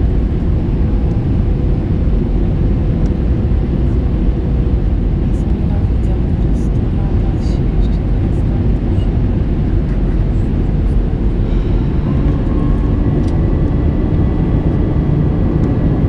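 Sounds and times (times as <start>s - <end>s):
aircraft engine and airflow roar: 0.0s - 16.0s.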